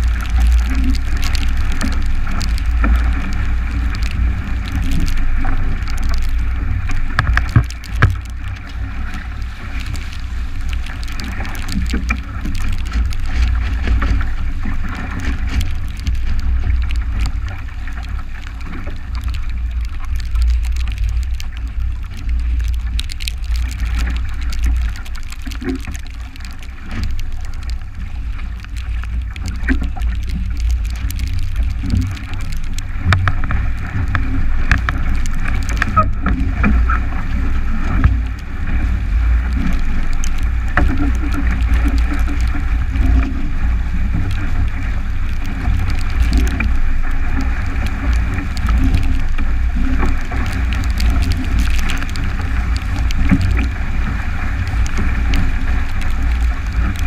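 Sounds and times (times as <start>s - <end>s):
rushing water: 0.0s - 57.0s
spray ticking on hull: 0.0s - 57.0s.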